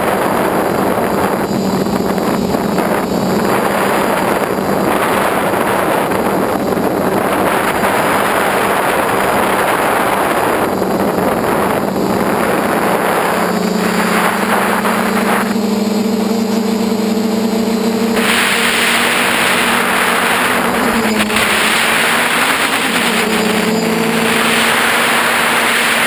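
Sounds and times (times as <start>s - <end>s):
electric motors and propellers: 0.0s - 26.0s
wind rushing over microphone: 0.0s - 26.0s.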